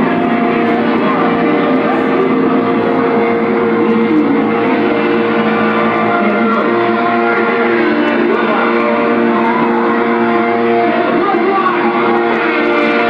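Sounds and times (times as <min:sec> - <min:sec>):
distorted harsh noise music: 0:00.0 - 0:13.0
steady droning tones: 0:00.0 - 0:13.0.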